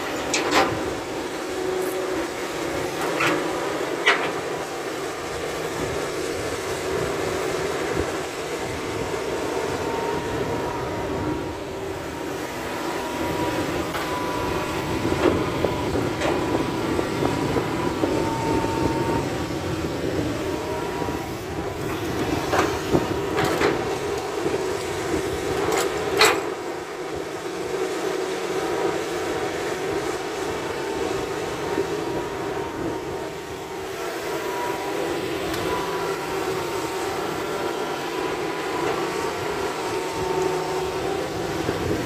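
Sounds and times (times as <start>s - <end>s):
excavator engine and hydraulics: 0.0s - 42.0s
thin steady whine: 0.0s - 42.0s.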